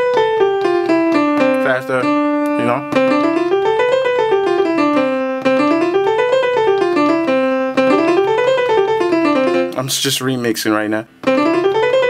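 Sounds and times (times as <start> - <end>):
held low piano note: 0.0 - 9.9
fast piano scale: 0.0 - 12.0.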